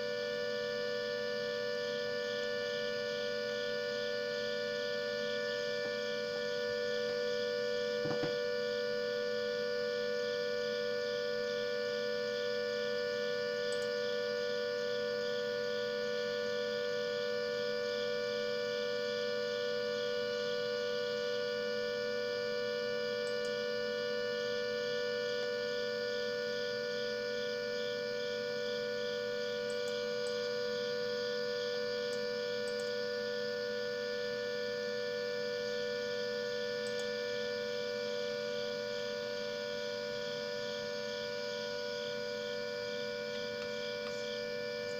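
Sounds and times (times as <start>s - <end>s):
electronic siren steady tone: 0.0s - 44.9s.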